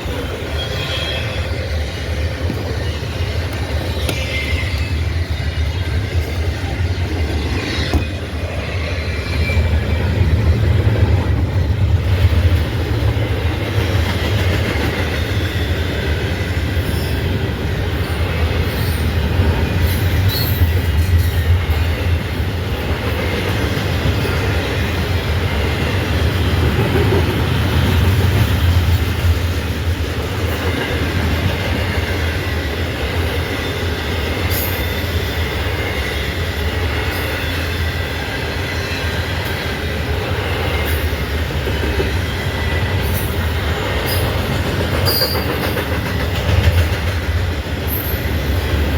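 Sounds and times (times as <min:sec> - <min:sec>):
train wheels squealing: 0:00.0 - 0:29.4, 0:30.3 - 0:48.9
low train rumble: 0:00.0 - 0:48.9
train wheels clicking over rail joints: 0:01.8 - 0:48.9.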